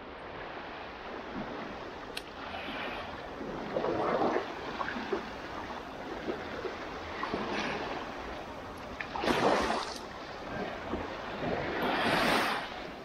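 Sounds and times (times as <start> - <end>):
waves washing onto a beach: 0.0 - 13.0.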